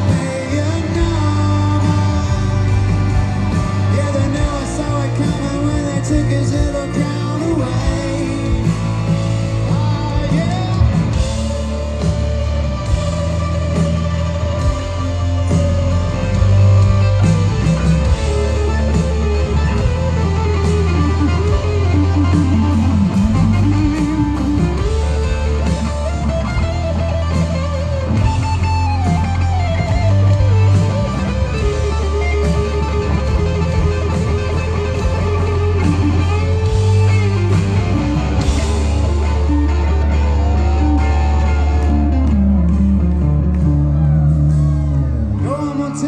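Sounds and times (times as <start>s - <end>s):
bass: 0.0s - 46.0s
drums: 0.0s - 46.0s
electric guitar lead with bends: 0.0s - 46.0s.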